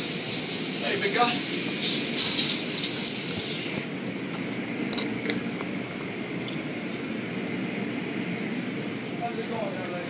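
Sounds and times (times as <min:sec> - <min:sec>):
spraying water and machinery rumble: 0:00.0 - 0:10.0.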